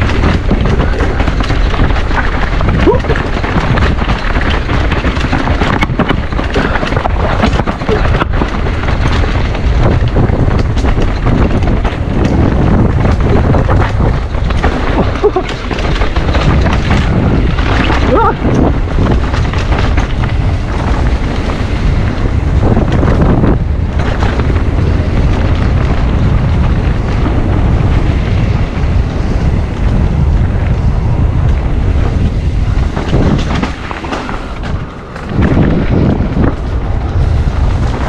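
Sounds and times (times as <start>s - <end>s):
wind buffeting on microphone: 0.0s - 38.0s.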